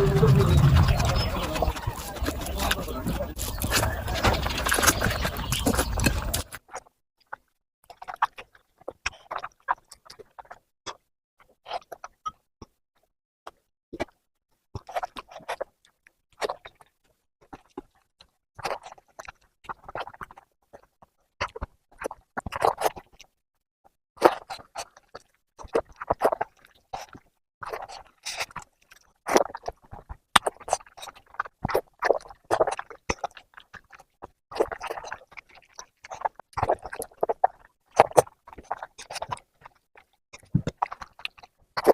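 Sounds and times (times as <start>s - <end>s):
wet chewing and mouth smacking: 0.0s - 23.4s, 24.2s - 41.9s.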